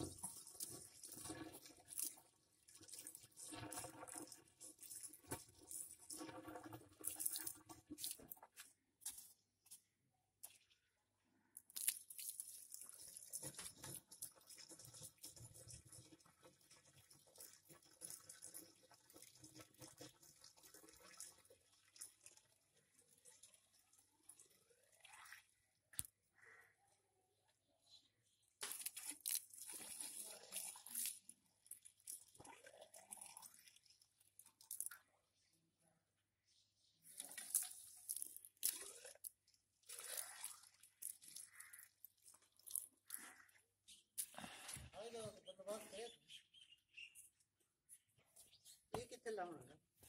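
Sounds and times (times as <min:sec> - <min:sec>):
water pouring and trickling: 0:00.0 - 0:26.2, 0:28.5 - 0:35.7, 0:36.5 - 0:46.0.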